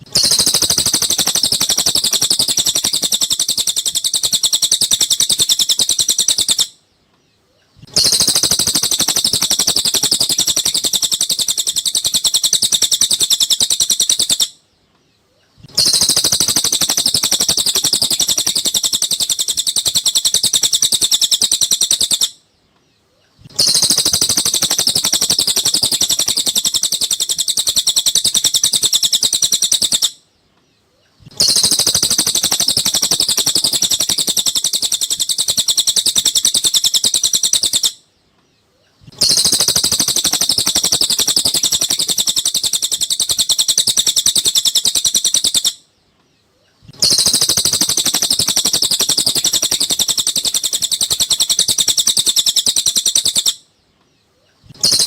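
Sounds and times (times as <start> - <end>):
bird chirping rapidly: 0.0 - 6.9, 7.5 - 14.6, 15.3 - 22.5, 23.2 - 30.2, 31.0 - 38.0, 38.9 - 45.9, 46.8 - 53.7, 54.6 - 55.0.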